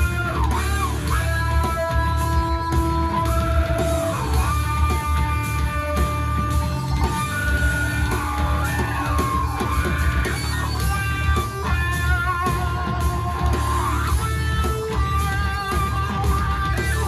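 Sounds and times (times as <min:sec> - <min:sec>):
heavy rock music through speakers: 0:00.0 - 0:17.0.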